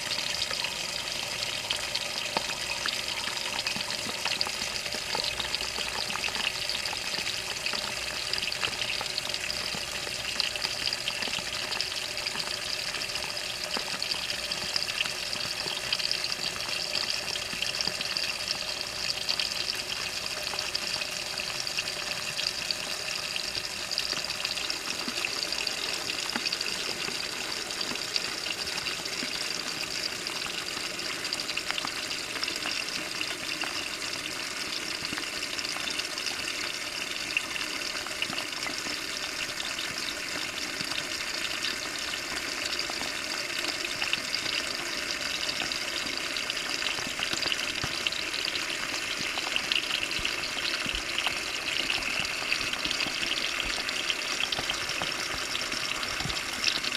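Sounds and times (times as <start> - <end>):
water rushing in washing machine: 0.0 - 56.9.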